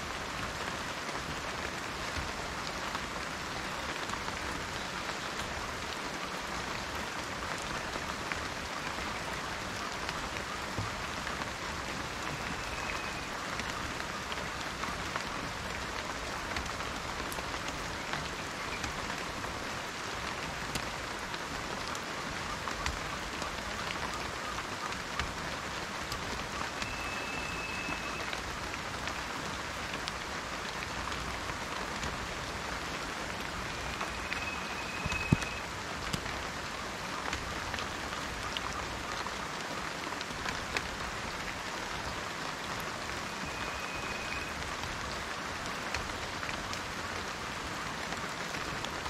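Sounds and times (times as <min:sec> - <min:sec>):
rain falling on foliage: 0:00.0 - 0:49.0
raindrops ticking: 0:00.1 - 0:49.0.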